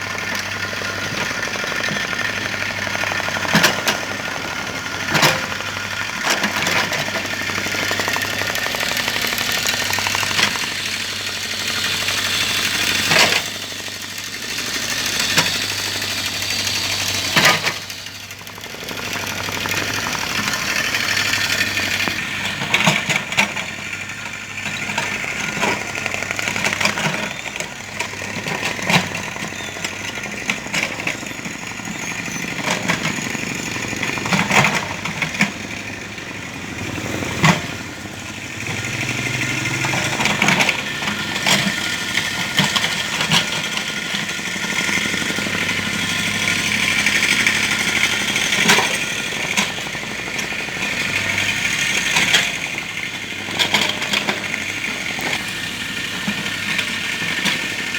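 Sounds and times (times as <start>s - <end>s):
excavator engine running: 0.0s - 57.9s.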